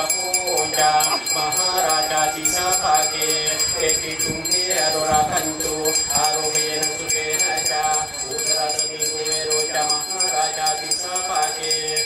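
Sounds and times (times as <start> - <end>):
small bells jingling: 0.0 - 12.0.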